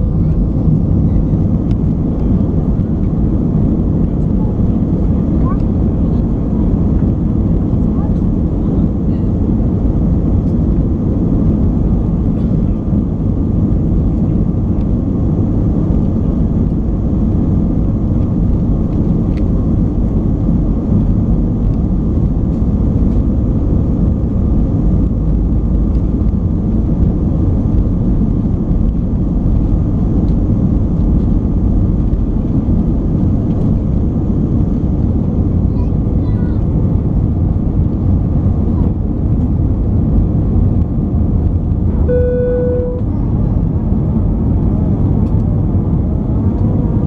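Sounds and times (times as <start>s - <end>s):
jet engines at takeoff thrust: 0.0s - 47.0s.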